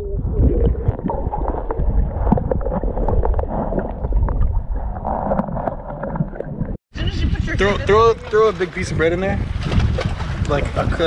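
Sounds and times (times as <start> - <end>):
muffled underwater water rush: 0.0 - 11.0.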